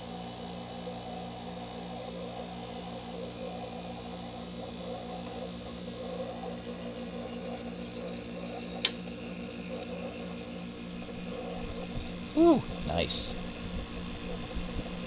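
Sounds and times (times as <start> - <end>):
air conditioner compressor hum: 0.0 - 15.0.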